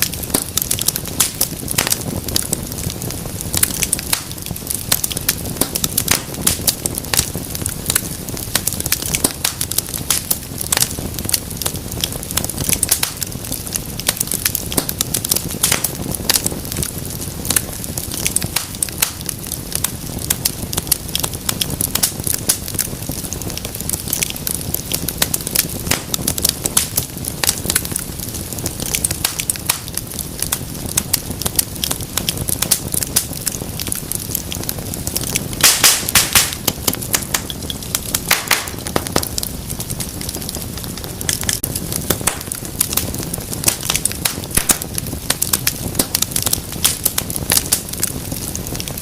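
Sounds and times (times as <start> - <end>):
low rushing of flames: 0.0 - 49.0
wood fire pops and snaps: 0.0 - 49.0.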